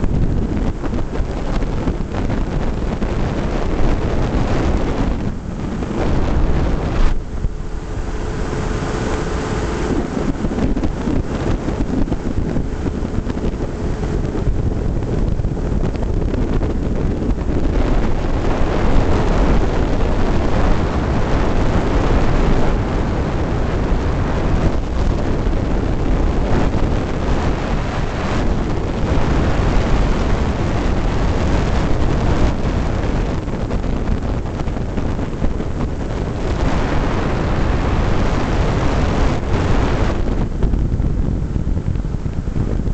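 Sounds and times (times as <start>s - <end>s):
wind rushing on microphone: 0.0s - 42.9s.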